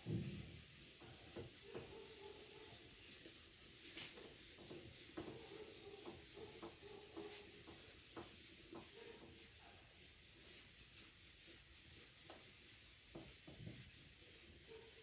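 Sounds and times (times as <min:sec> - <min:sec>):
eraser rubbing on whiteboard: 0:00.0 - 0:15.0.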